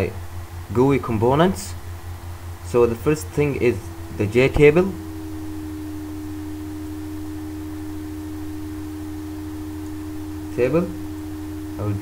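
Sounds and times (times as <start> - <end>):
low drone hum: 0.0 - 12.0
steady pitched tone: 2.1 - 12.0.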